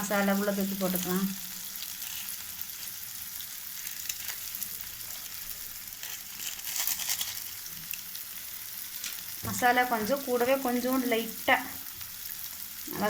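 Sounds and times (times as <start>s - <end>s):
onion frying in oil: 0.0s - 13.0s.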